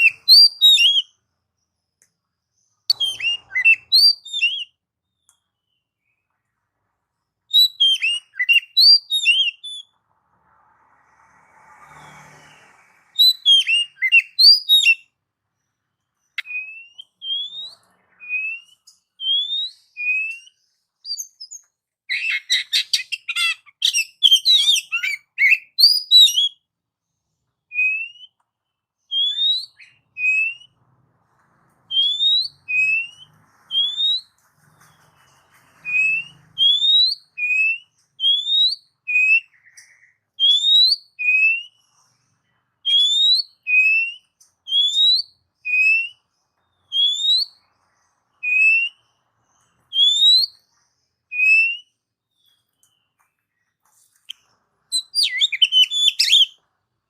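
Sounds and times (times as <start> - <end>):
bird singing whistled notes: 0.0 - 2.0, 2.6 - 6.3, 7.5 - 10.0, 12.4 - 15.2, 16.2 - 26.7, 27.7 - 30.8, 31.9 - 42.1, 42.8 - 53.6, 54.2 - 56.6.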